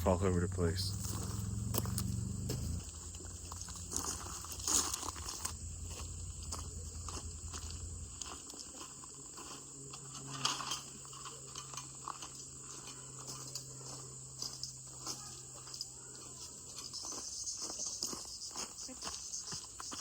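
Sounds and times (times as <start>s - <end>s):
faint low hum: 0.0s - 17.2s
high-pitched insect drone: 0.0s - 20.0s.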